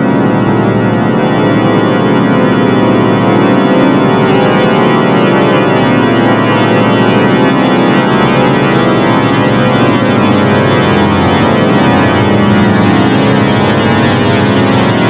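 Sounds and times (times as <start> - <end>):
organ chord: 0.0 - 15.0.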